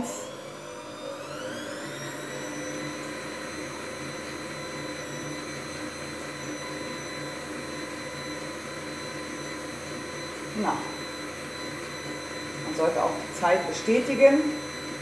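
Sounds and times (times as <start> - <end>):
kitchen machine whining: 0.0 - 15.0.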